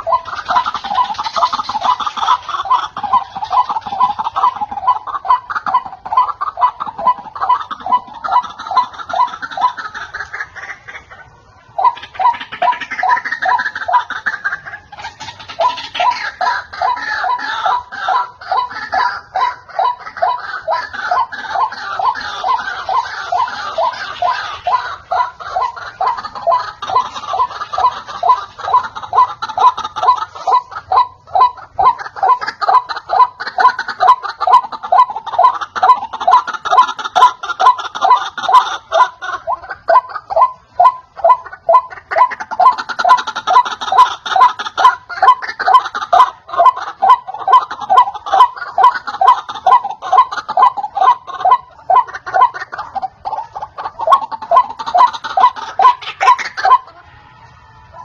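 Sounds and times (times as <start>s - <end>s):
bird croaking calls: 0.0s - 58.0s.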